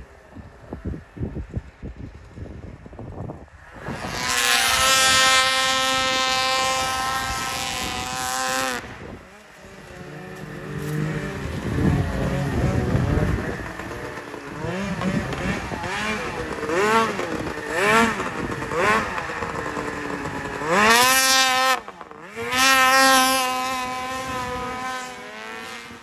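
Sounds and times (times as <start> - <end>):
snowmobile engines revving: 0.0 - 26.0.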